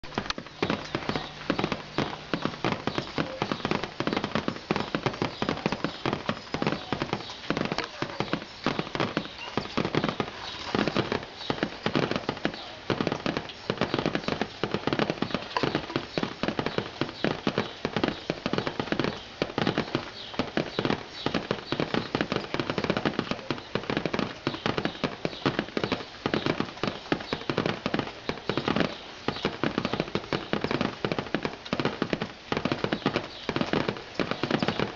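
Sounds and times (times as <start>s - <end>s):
rain on a hard surface: 0.0s - 34.9s.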